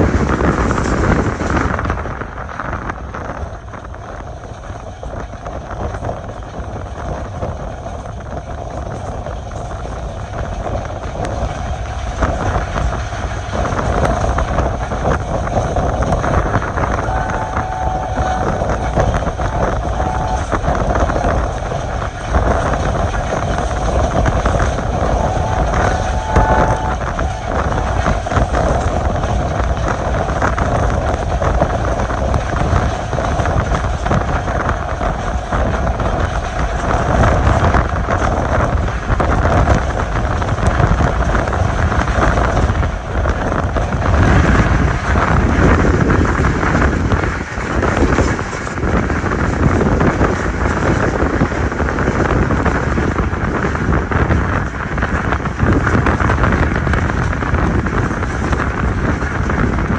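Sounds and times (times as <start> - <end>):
train wheels rumbling on rails: 0.0 - 59.9
wind buffeting microphone: 0.0 - 59.9.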